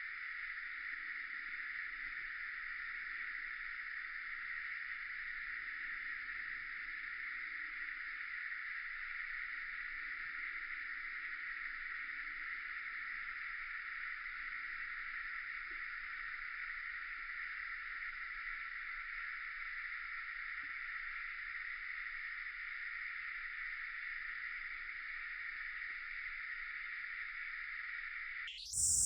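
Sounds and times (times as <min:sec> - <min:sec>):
cicada chorus droning: 0:00.2 - 0:29.0.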